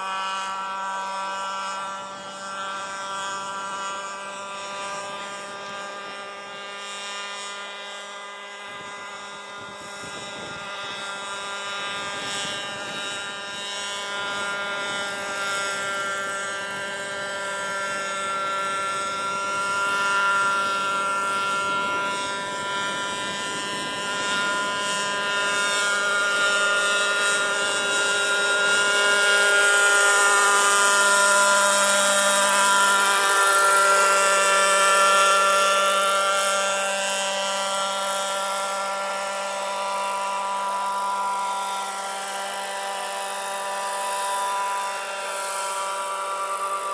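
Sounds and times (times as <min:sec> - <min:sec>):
model helicopter engine drone: 0:00.0 - 0:46.9.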